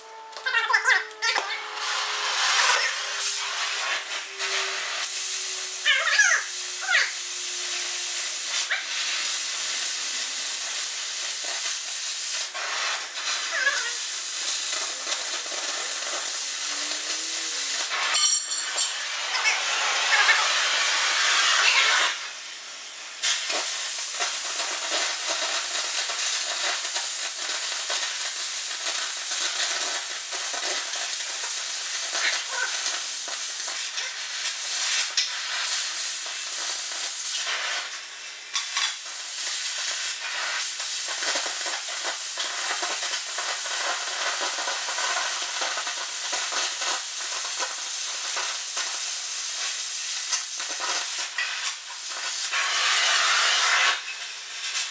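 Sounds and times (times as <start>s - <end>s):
arc gouging crackling hiss: 0.0s - 54.9s.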